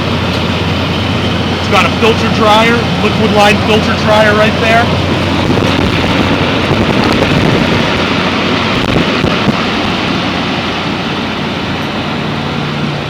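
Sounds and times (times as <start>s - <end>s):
compressor hum: 0.0s - 13.0s
condenser fan air rush: 0.0s - 13.0s.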